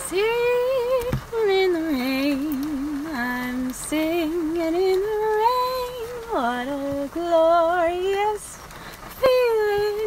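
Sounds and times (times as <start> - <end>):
woman singing with vibrato: 0.0 - 10.0.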